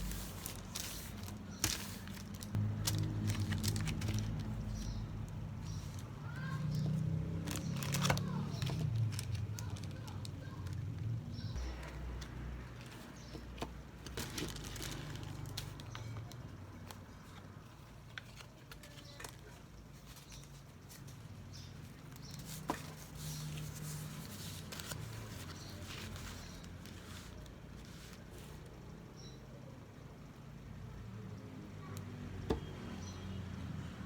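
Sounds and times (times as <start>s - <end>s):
light handling rustling: 0.0s - 28.8s.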